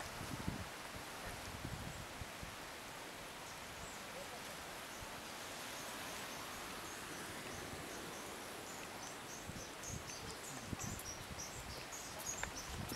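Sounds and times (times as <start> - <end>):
outdoor background hiss: 0.0 - 12.9.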